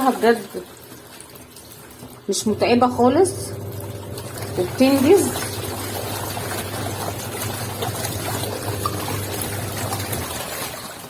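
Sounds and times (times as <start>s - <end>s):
washing machine motor hum: 0.0s - 11.0s
water churning and sloshing: 0.0s - 11.0s.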